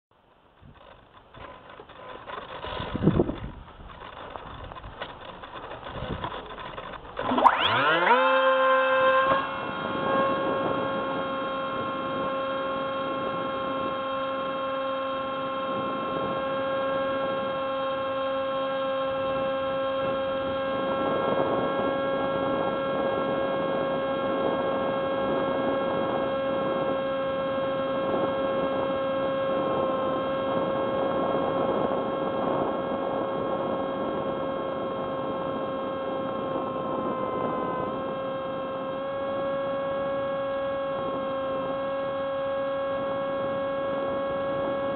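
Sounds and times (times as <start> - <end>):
electric motor whine: 0.6 - 44.9.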